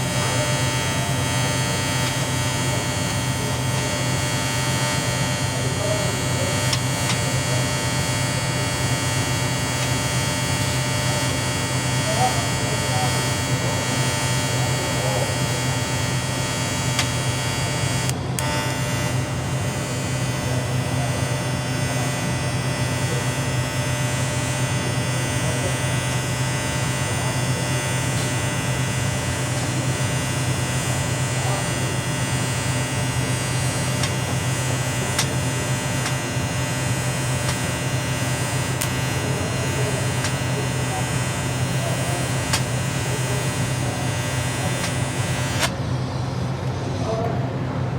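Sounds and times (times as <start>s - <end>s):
arc welding buzz: 0.0s - 46.5s.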